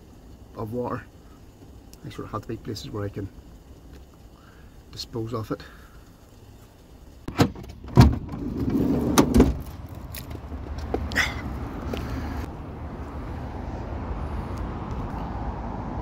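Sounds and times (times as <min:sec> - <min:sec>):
low rumble of outdoor traffic: 0:00.0 - 0:16.0.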